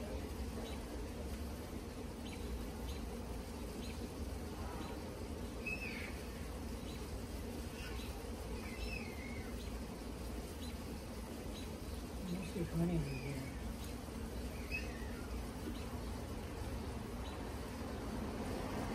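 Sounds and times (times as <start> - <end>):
honeybees buzzing: 0.0 - 18.9.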